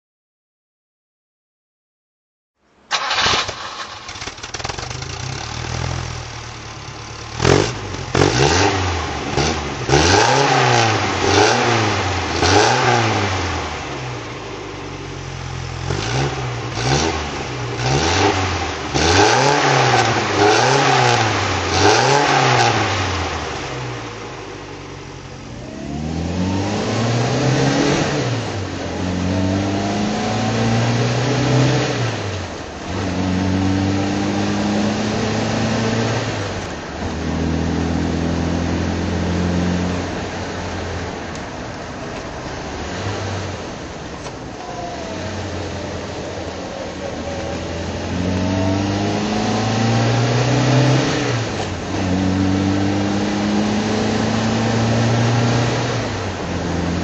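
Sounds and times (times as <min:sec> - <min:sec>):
car engine starting and revving: 0:02.9 - 0:57.0.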